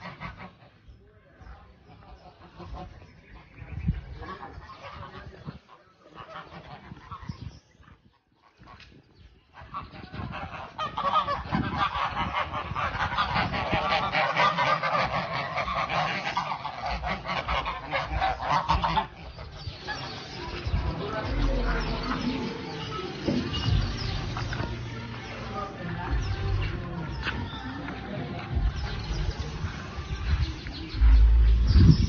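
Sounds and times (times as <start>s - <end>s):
geese honking: 0.0s - 0.9s, 1.9s - 7.5s, 9.5s - 32.0s.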